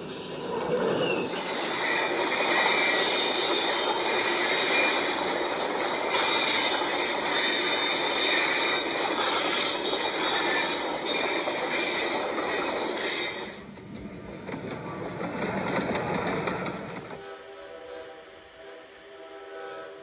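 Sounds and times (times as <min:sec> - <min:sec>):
train wheels screeching: 0:00.0 - 0:17.2
train rumbling: 0:00.0 - 0:19.8.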